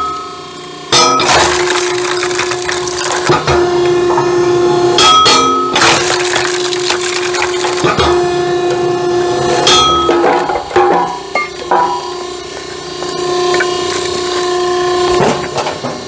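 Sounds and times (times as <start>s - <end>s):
steady hum: 0.0s - 16.0s
firewood cracking and splintering: 1.2s - 4.0s, 5.8s - 15.8s.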